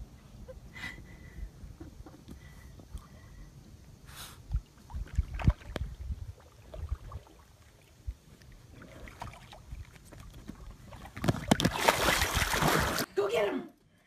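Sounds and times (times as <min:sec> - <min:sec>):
wind and water rumble: 0:00.0 - 0:13.1.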